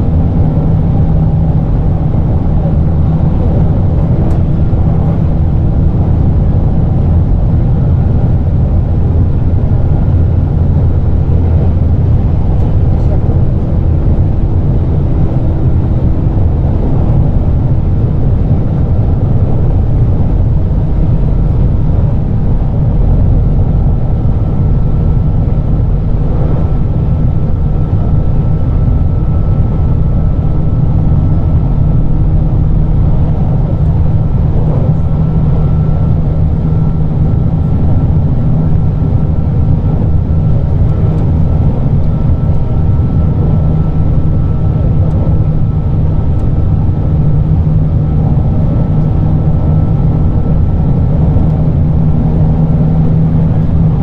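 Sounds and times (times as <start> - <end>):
faint high whine: 0.0 - 54.0
train running gear rumble: 0.0 - 54.0.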